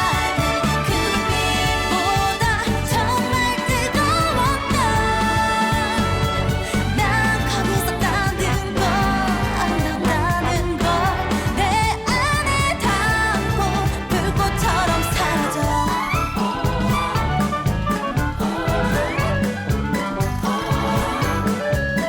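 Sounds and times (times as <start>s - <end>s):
pop song with singer: 0.0s - 22.0s.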